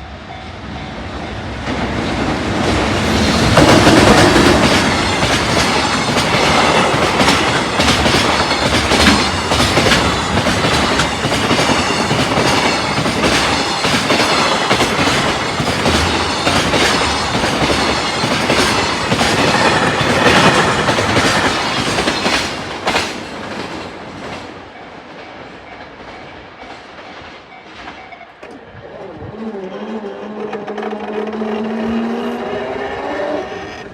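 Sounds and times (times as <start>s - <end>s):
freight train wheels clattering: 0.6s - 28.7s.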